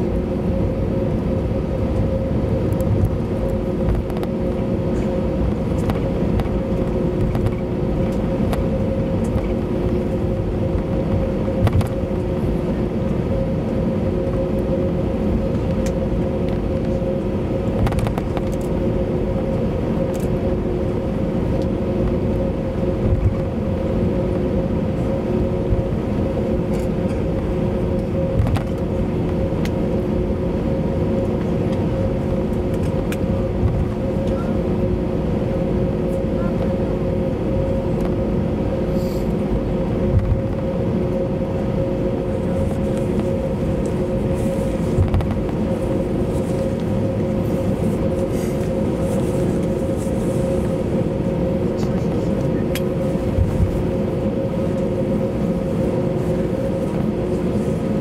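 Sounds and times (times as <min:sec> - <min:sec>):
jet engines idling hum: 0:00.0 - 0:58.0.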